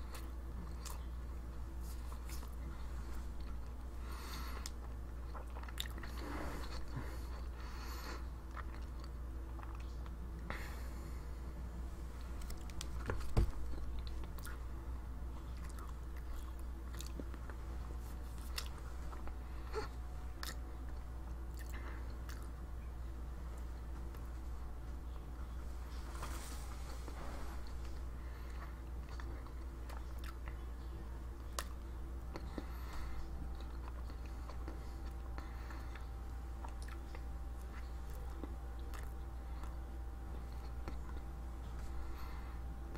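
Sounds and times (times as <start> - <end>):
person chewing: 0.0 - 11.0, 12.2 - 14.7, 15.3 - 22.6, 27.6 - 42.4
steady low hum: 0.0 - 42.9.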